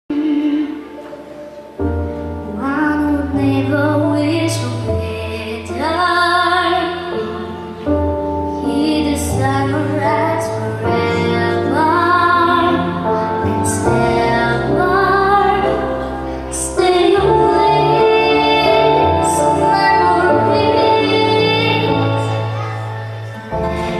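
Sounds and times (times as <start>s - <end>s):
woman singing: 0.1s - 1.2s, 2.5s - 7.8s, 8.6s - 22.7s
instrumental accompaniment: 0.1s - 23.9s.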